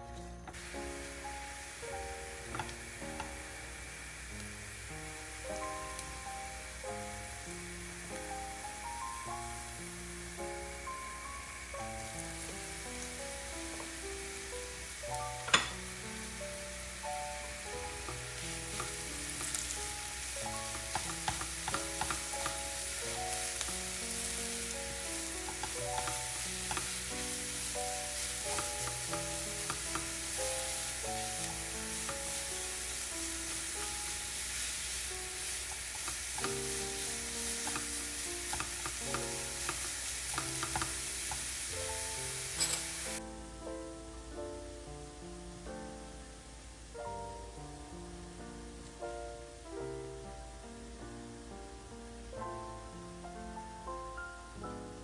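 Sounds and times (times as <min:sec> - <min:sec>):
soft background music: 0:00.0 - 0:55.0
vegetables sizzling in oil: 0:00.0 - 0:55.0.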